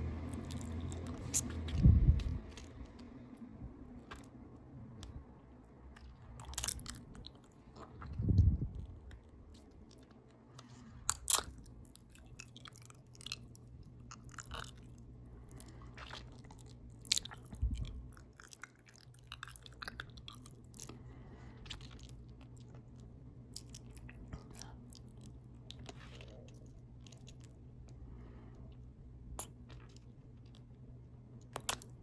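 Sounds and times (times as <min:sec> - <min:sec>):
open-mouth chewing: 0:00.1 - 0:32.0.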